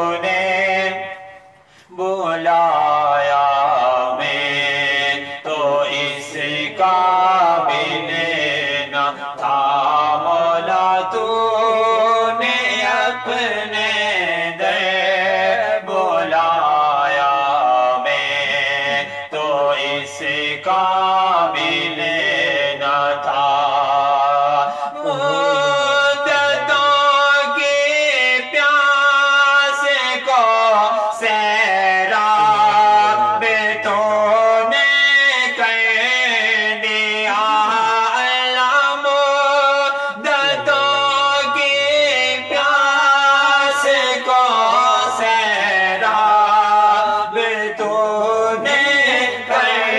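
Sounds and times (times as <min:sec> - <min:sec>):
man singing: 0:00.0 - 0:49.9.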